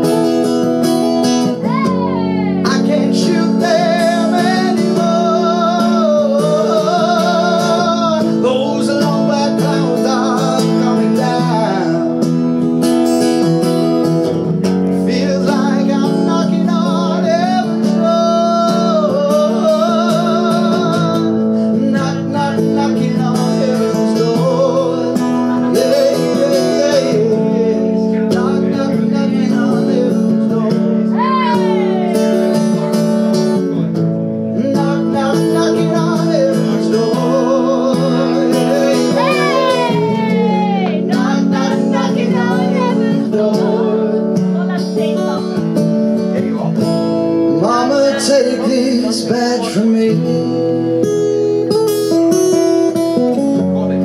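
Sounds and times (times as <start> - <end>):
man singing with vibrato: 0.0 - 54.0
strummed acoustic guitar: 0.0 - 54.0.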